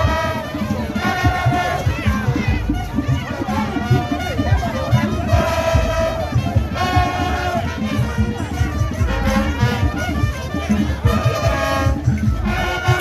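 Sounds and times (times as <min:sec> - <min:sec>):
horn lines: 0:00.0 - 0:13.0
pounding drum beat: 0:00.0 - 0:13.0.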